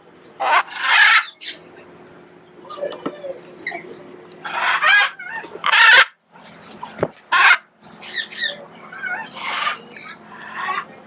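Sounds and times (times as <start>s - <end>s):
macaws squawking: 0.4s - 1.7s, 2.7s - 11.0s
warbling bird calls: 0.4s - 1.7s, 2.4s - 11.0s.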